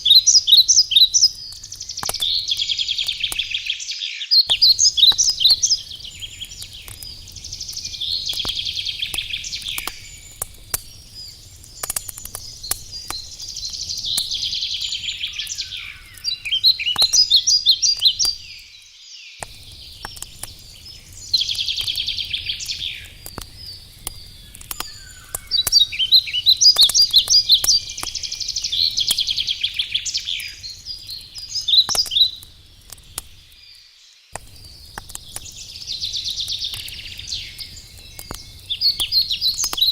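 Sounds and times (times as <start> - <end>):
campfire crackling: 0.0 - 3.9, 4.5 - 39.9
songbirds singing: 0.0 - 39.9.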